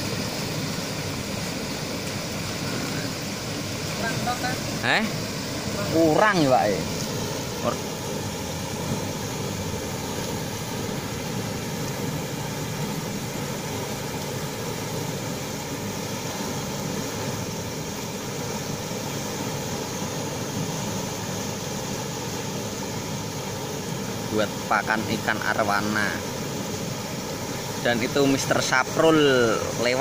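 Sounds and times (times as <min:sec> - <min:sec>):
turbulent river water rushing: 0:00.0 - 0:30.0.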